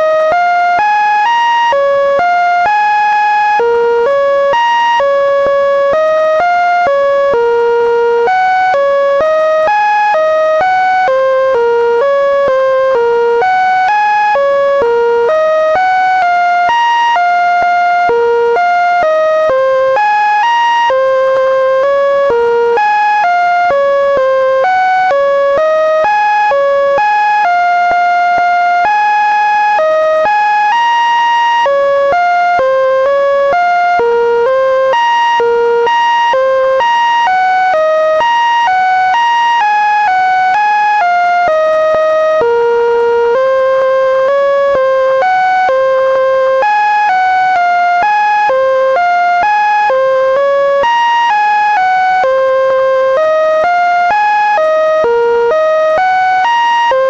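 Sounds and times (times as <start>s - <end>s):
buzzy synthesized melody: 0.0s - 57.0s.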